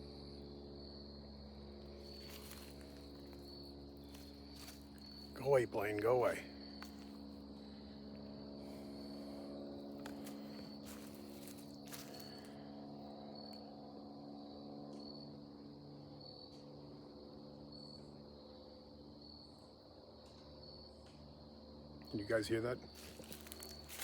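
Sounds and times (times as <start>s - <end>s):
airplane droning overhead: 0.0s - 24.0s
insects chirping: 0.0s - 24.0s.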